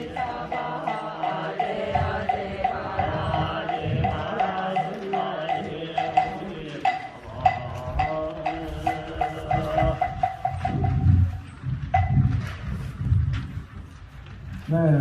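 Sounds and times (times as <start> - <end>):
ritual chanting: 0.0 - 12.4.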